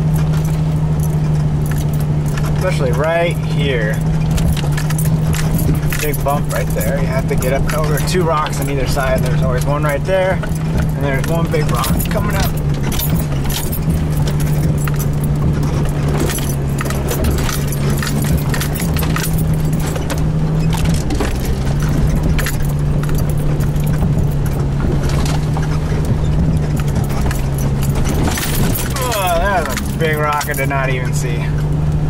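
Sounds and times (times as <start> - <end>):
rattles and knocks over rocks: 0.0 - 32.0
vehicle engine running under load: 0.0 - 32.0.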